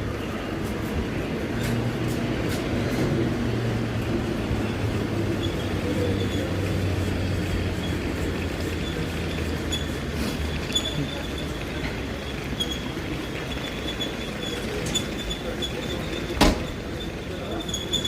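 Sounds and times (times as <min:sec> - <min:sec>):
electric locomotive humming: 0:00.0 - 0:18.0.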